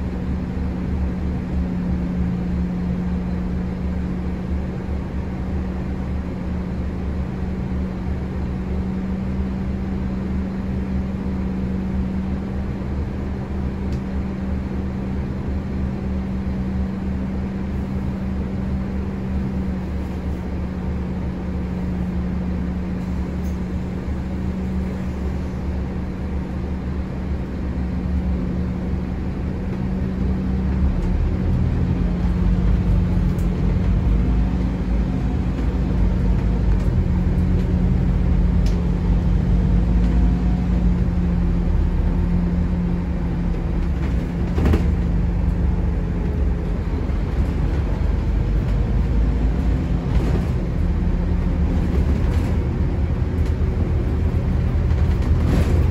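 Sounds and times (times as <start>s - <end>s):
bus diesel engine idling: 0.0s - 55.9s.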